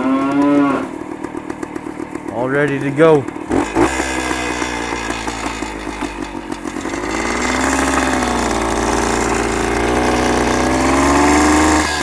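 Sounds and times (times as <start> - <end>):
two-stroke engine idling and revving: 0.0 - 12.0.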